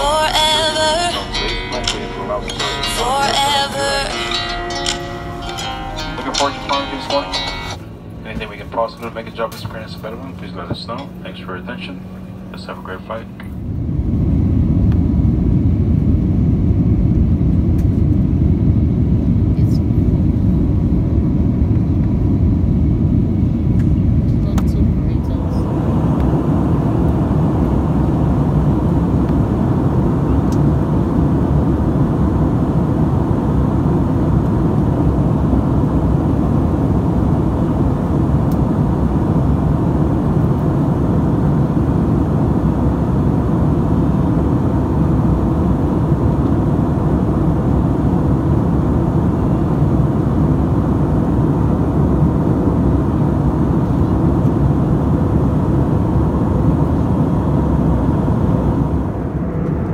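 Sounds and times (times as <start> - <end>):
jet engines and airflow rumble: 0.0 - 59.9.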